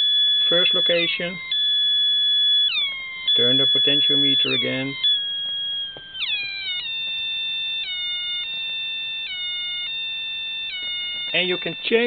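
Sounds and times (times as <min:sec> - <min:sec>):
electronic two-tone siren: 0:00.0 - 0:12.0.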